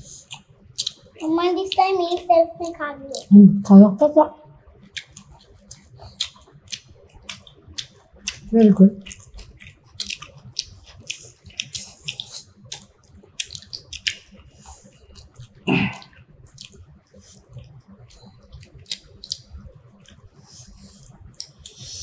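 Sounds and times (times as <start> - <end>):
wet chewing and lip smacks: 0.2 - 3.3, 4.8 - 21.9.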